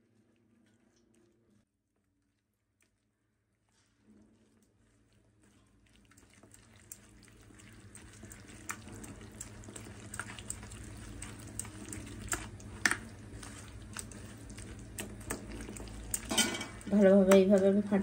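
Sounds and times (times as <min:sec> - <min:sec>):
batter squelching in steel bowl: 0:00.0 - 0:18.0.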